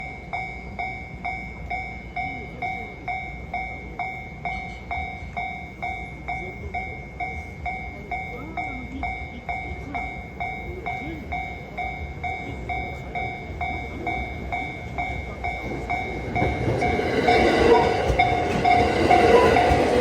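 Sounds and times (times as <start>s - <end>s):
level crossing warning bell: 0.0s - 20.0s.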